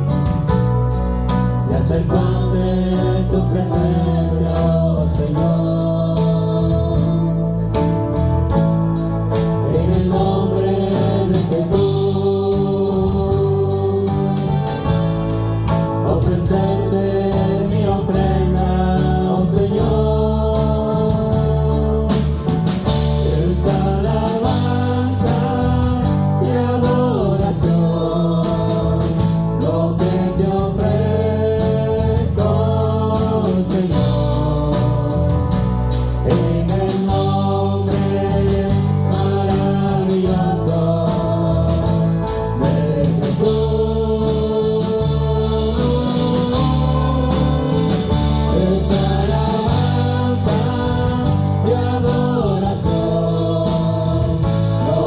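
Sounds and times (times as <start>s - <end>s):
band with heavy bass: 0.0s - 55.0s
steady drum beat: 0.0s - 55.0s
voices singing held notes: 1.2s - 8.0s, 9.3s - 55.0s.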